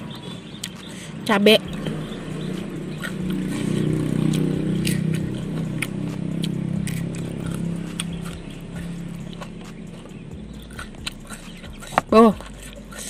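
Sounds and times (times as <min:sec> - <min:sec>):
vehicle engine passing: 0:00.0 - 0:13.0
crisp chili biting and chewing: 0:00.2 - 0:00.9, 0:02.6 - 0:13.0.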